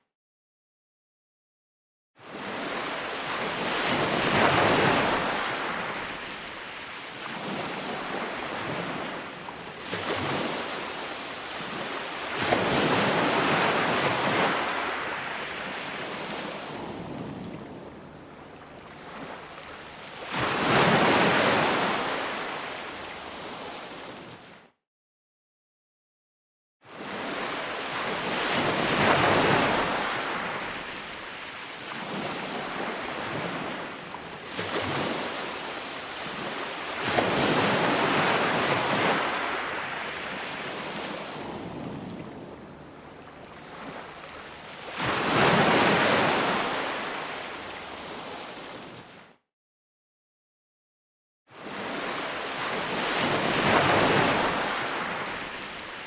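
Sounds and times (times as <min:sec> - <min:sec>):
ocean waves breaking on shore: 0:02.2 - 0:24.7, 0:26.9 - 0:49.4, 0:51.5 - 0:56.0.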